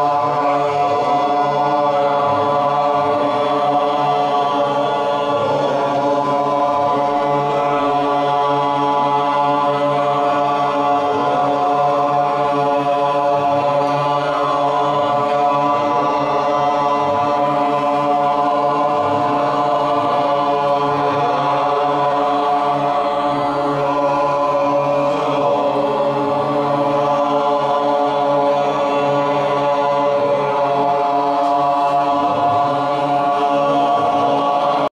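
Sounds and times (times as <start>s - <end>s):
group chanting on a drone: 0.0s - 34.9s.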